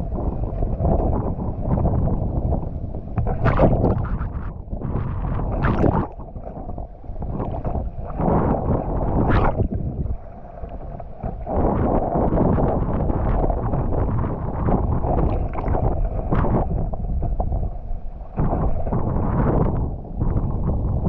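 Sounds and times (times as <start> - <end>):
sea water splashing: 0.0 - 21.0
wind buffeting microphone: 0.0 - 21.0.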